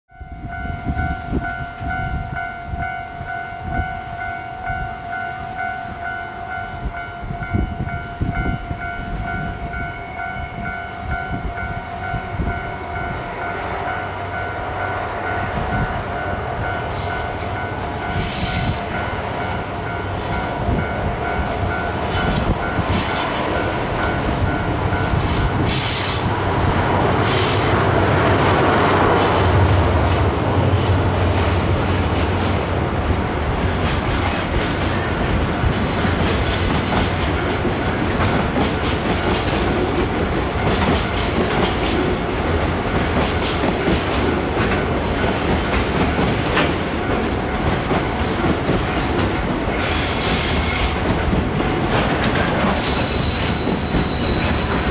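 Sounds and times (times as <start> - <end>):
train engine rumble and knocking: 0.1 - 54.9
rushing noise: 10.8 - 54.9.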